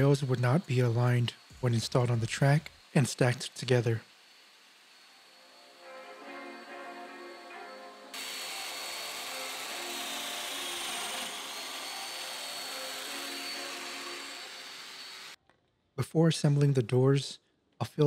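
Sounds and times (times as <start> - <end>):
power tool whining: 0.0 - 15.4.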